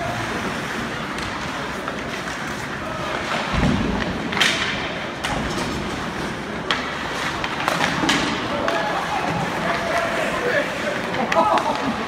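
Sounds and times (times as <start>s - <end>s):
ice hockey arena ambience: 0.0s - 12.0s.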